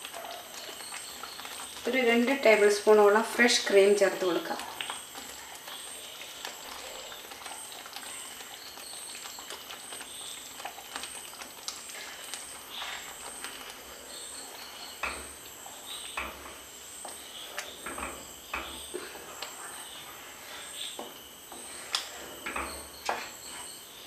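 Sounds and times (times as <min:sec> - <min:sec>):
gravy bubbling in a pan: 0:00.0 - 0:24.0.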